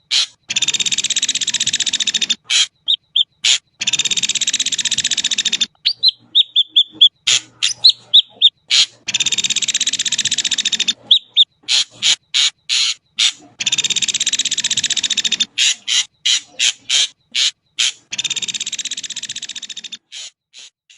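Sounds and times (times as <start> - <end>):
bird rattling trills: 0.1 - 20.8.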